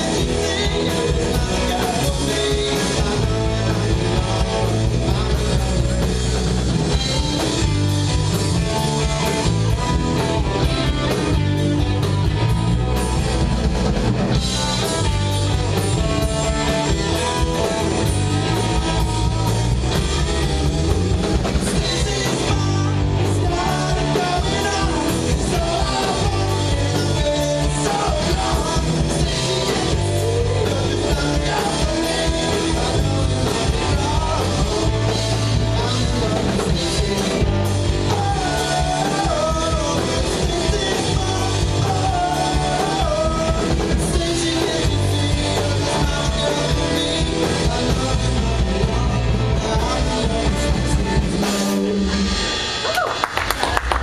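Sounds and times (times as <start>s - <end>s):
person singing: 0.0s - 9.4s, 14.7s - 54.0s
live rock band playing: 0.0s - 54.0s.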